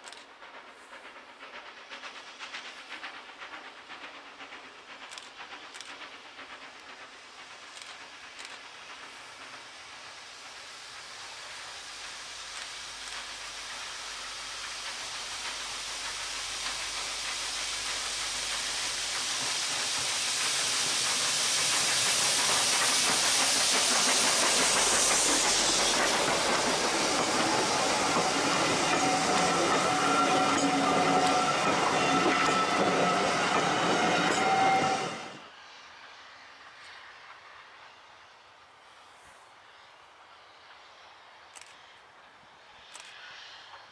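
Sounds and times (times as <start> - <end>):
steam locomotive hiss and exhaust: 0.0 - 43.9.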